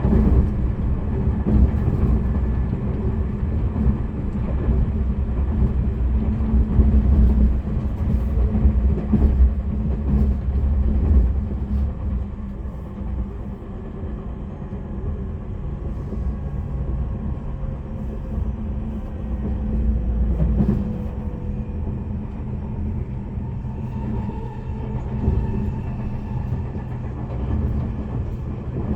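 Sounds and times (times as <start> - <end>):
train wheels rumbling on track: 0.0 - 28.9.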